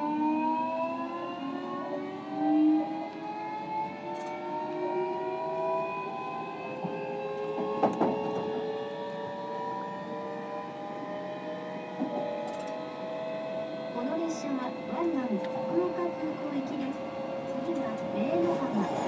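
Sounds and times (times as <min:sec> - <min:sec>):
train traction motor whining: 0:01.0 - 0:19.0.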